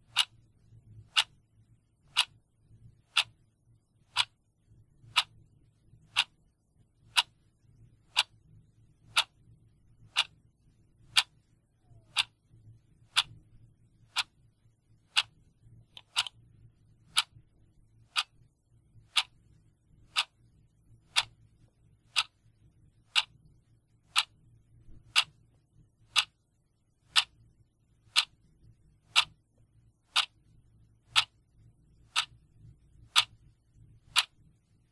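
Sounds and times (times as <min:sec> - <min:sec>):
clock ticking: 0:00.0 - 0:01.4, 0:02.0 - 0:04.4, 0:05.0 - 0:09.4, 0:10.0 - 0:10.4, 0:11.0 - 0:14.4, 0:15.0 - 0:34.8
faint low hum: 0:00.0 - 0:34.9.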